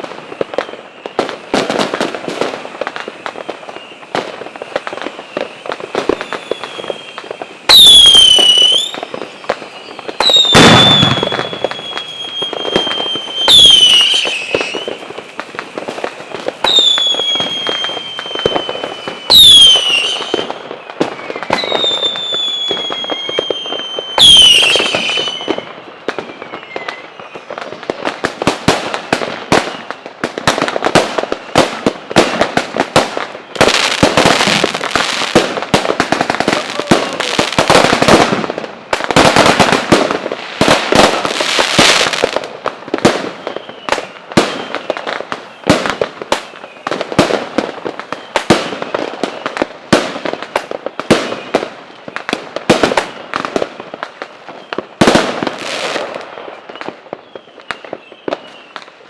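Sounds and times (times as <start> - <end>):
fireworks bangs and crackling pops: 0.0 - 59.0.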